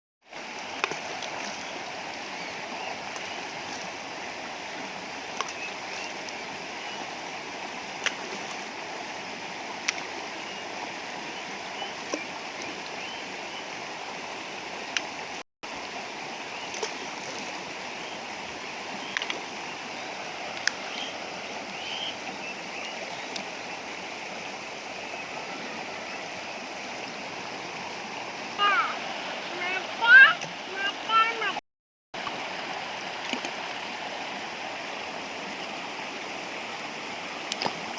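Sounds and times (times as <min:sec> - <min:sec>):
river flowing: 0:00.2 - 0:31.6, 0:32.2 - 0:37.9.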